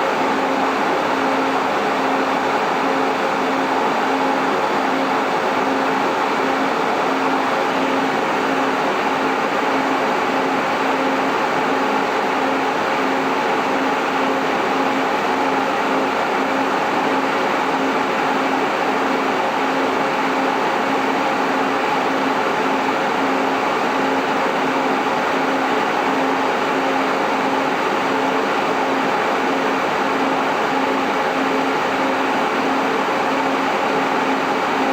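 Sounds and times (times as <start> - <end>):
cooling fan noise: 0.0 - 34.9.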